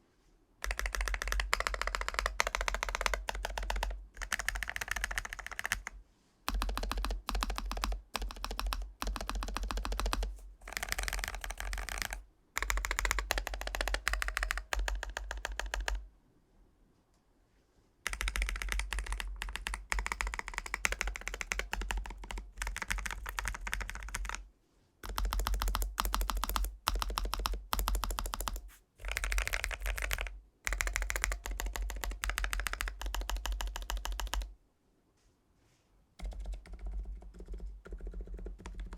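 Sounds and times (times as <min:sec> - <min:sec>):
fast typing on mechanical keyboard: 0:00.6 - 0:16.0, 0:18.0 - 0:24.4, 0:25.0 - 0:34.5, 0:36.2 - 0:38.9.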